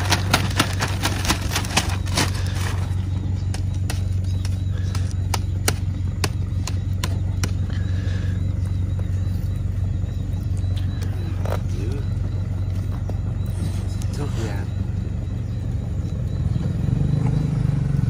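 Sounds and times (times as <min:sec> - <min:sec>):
idling engine hum: 0:00.0 - 0:18.0.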